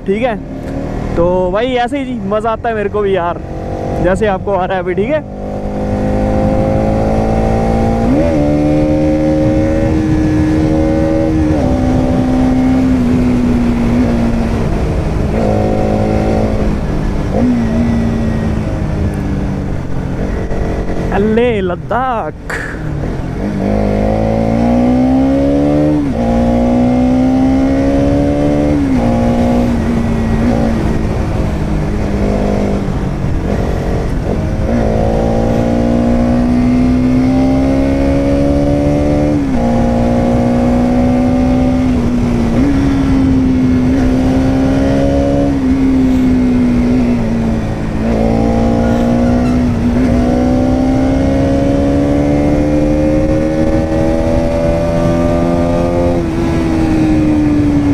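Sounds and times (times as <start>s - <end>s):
motorcycle engine revving: 0.0s - 21.5s, 22.4s - 57.9s.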